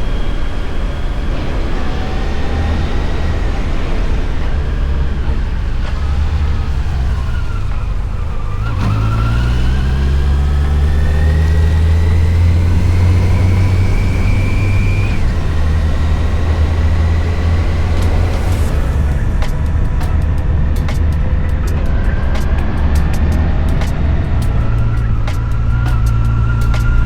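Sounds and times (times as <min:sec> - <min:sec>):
motorcycle engine accelerating: 0:00.0 - 0:27.0
wind rumble: 0:00.0 - 0:27.0.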